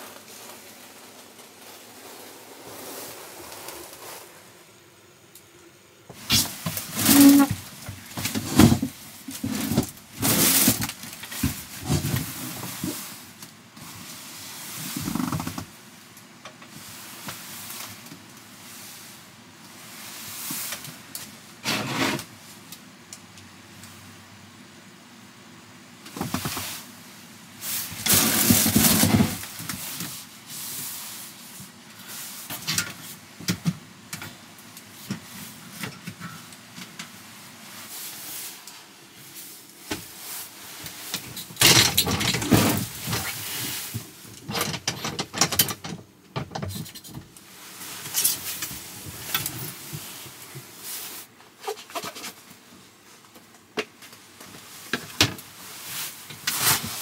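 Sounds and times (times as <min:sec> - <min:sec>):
rustling of things handled: 0:00.0 - 0:04.8, 0:06.0 - 0:22.8, 0:26.1 - 0:57.0.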